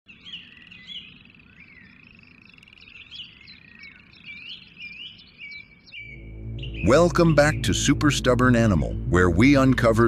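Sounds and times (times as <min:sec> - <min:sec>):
whistled chirps and swooping calls: 0:00.2 - 0:08.3.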